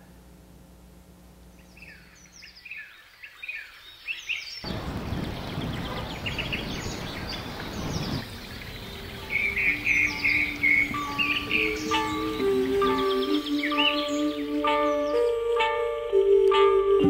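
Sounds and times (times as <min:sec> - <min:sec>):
birds chirping: 0:01.4 - 0:15.7.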